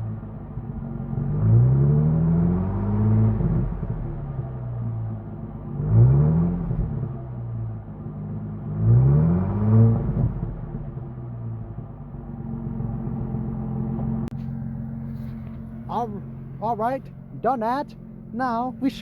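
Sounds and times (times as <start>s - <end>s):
car engine idling: 0.0s - 8.8s, 10.2s - 19.0s
car engine revving: 0.0s - 19.0s.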